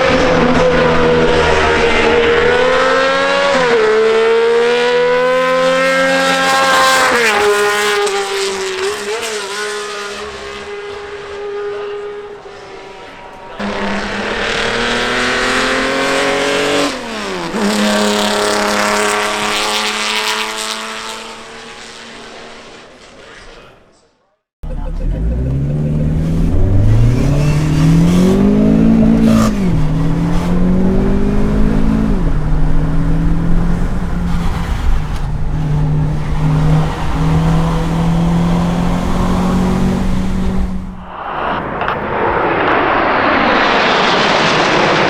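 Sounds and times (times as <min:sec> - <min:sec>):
racing car engines revving: 0:00.0 - 0:23.6, 0:24.6 - 0:41.1.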